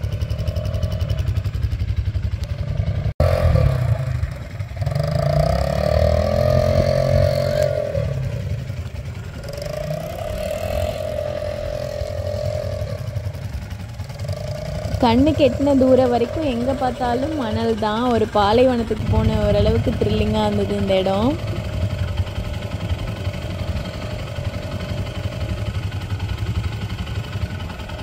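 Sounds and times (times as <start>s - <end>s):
quad bike engine revving: 0.0s - 28.0s.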